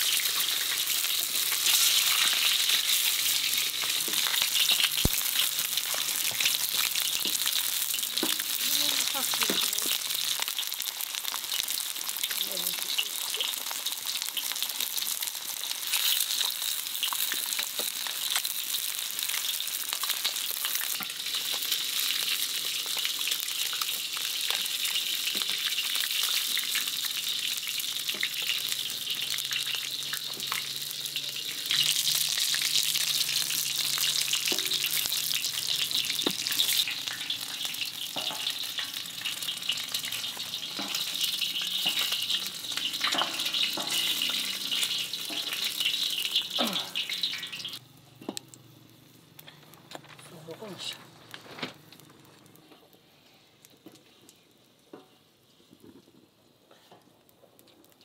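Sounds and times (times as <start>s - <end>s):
food sizzling in a pan: 0.0s - 56.1s.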